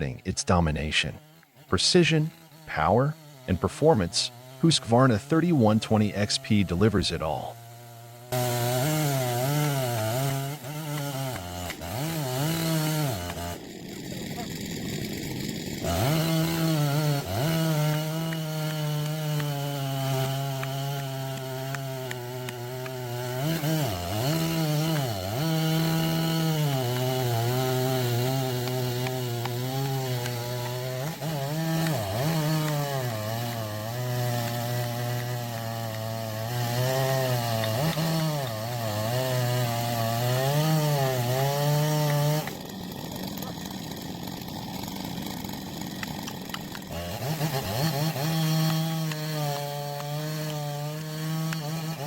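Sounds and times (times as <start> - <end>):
chainsaw cutting through wood: 0.0 - 52.0.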